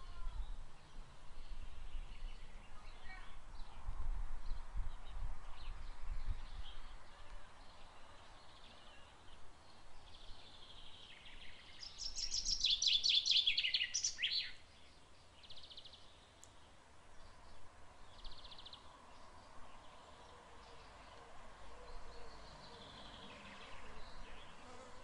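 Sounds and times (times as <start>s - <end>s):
songbird chirping trills: 4.5s - 24.8s.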